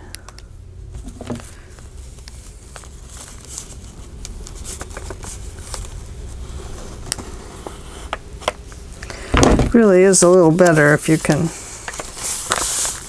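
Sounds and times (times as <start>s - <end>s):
paper rustling and crinkling: 1.0s - 8.0s, 9.1s - 13.0s.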